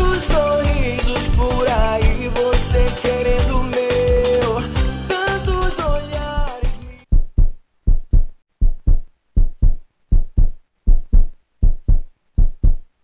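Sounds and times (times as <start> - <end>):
heartbeat double thumps: 0.0 - 4.2, 5.8 - 13.0.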